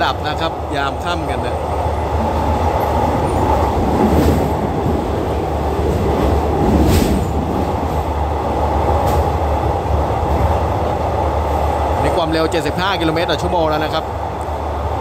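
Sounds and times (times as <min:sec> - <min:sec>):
train coach running rumble: 0:00.0 - 0:15.0.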